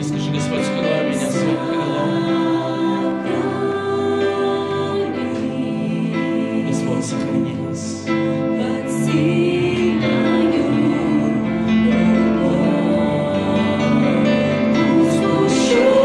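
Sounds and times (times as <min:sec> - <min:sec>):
keyboard sustained chords: 0:00.0 - 0:16.0
singers holding long notes: 0:00.0 - 0:16.0.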